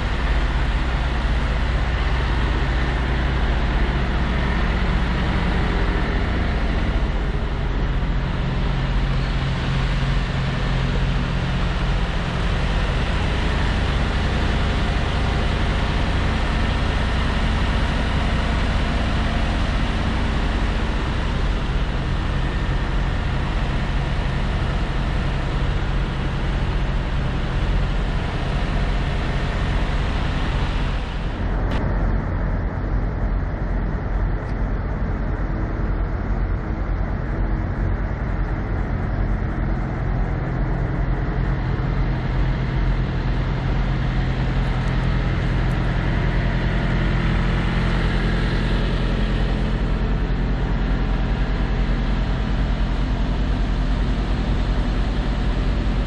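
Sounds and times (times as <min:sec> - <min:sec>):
diesel truck engines idling: 0:00.0 - 0:56.0.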